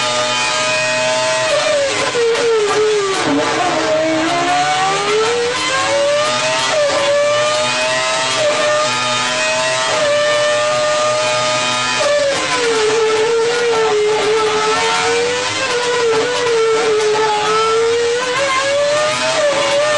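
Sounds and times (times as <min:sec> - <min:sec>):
racing car engine at high revs: 0:00.0 - 0:19.9.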